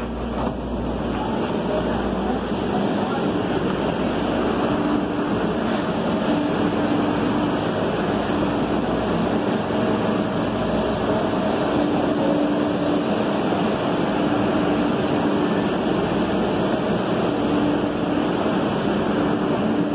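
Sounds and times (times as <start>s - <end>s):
train car rumbling: 0.0s - 19.9s.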